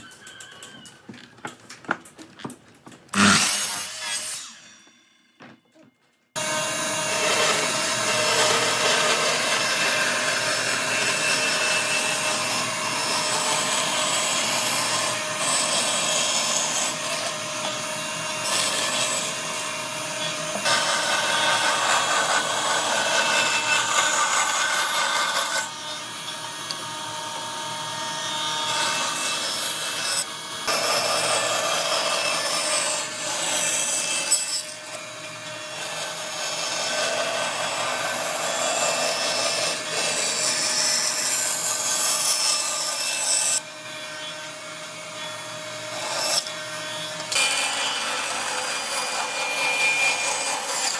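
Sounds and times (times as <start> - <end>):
tool sawing wood: 3.1 - 4.9, 6.4 - 50.9.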